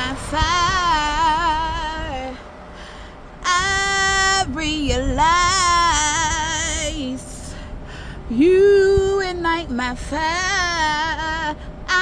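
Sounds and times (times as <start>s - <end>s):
person singing unaccompanied: 0.0s - 2.4s, 3.4s - 7.6s, 8.3s - 12.0s.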